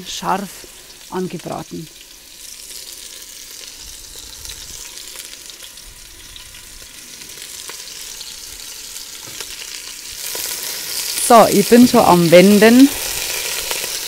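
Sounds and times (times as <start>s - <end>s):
meat sizzling in butter: 0.0s - 14.0s.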